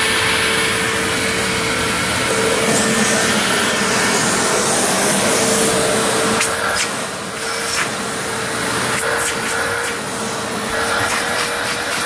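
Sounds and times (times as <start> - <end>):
upright vacuum running: 0.0 - 12.0.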